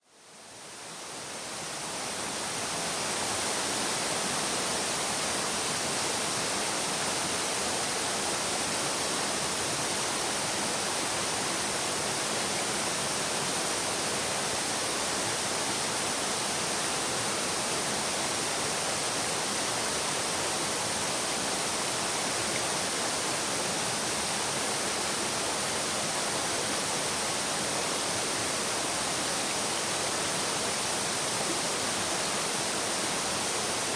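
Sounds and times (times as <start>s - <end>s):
stream babbling: 1.1s - 33.9s.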